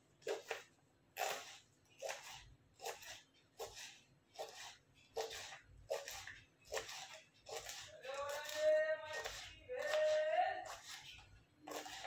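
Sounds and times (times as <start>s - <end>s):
knife chopping on plastic board: 0.2s - 12.0s.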